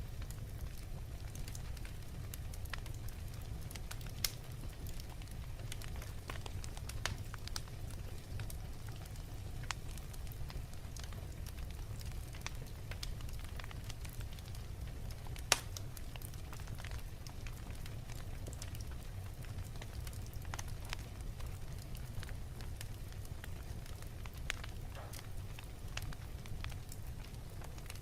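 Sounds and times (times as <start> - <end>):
wood fire crackling: 0.0 - 28.0
fire pops: 0.2 - 28.0.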